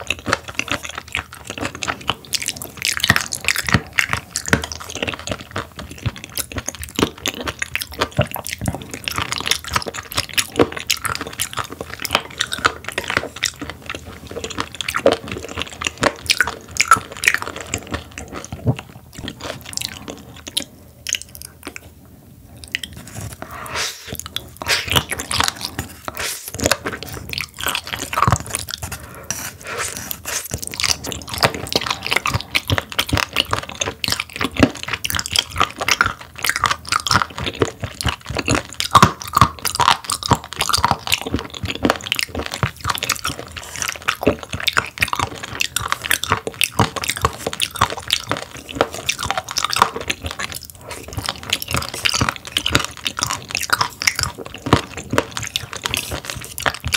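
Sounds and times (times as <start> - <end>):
chewing with wet mouth clicks: 0.0 - 56.9.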